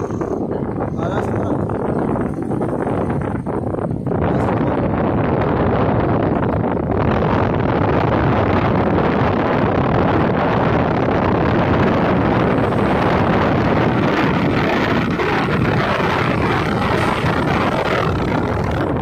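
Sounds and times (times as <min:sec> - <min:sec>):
vehicle running and road noise: 0:00.0 - 0:19.0
wind on microphone: 0:00.0 - 0:19.0.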